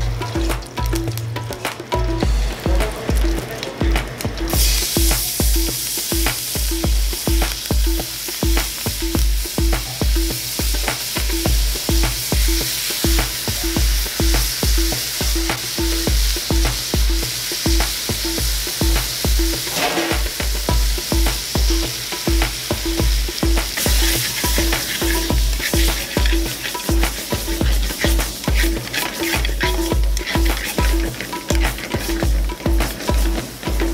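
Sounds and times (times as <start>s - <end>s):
chicken sizzling in a pan: 0.0s - 33.9s.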